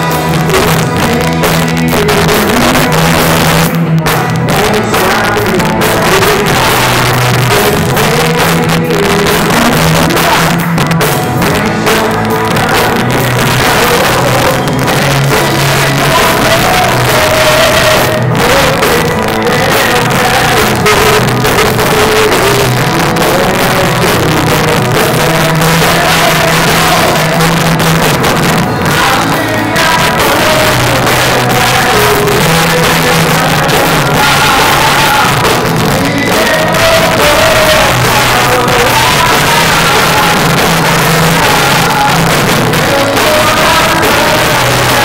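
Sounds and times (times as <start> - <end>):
drum kit: 0.0 - 45.0
guitar: 0.0 - 45.0
man and woman singing: 0.0 - 45.0.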